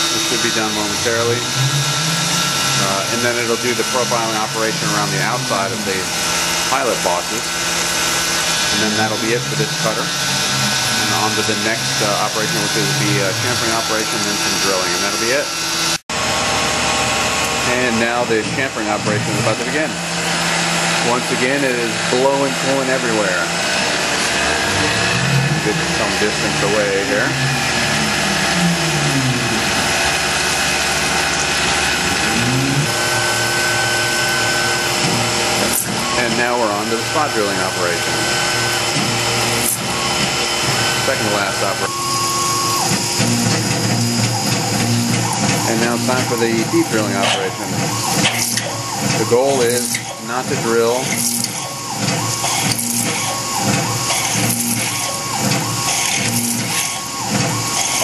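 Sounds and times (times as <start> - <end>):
high whine: 0.0 - 58.0
mill spindle running: 0.0 - 58.0.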